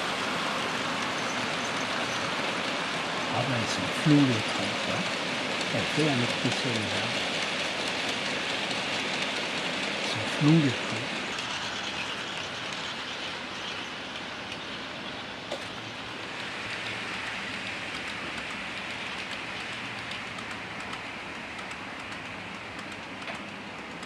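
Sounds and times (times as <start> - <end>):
model train whirring on track: 0.0 - 24.0.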